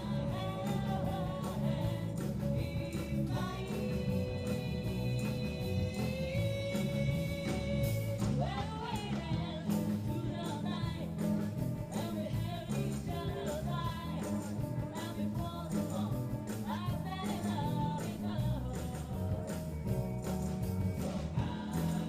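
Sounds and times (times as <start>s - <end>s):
person singing: 0.0s - 19.4s, 21.4s - 22.0s
live rock band playing: 0.0s - 22.0s.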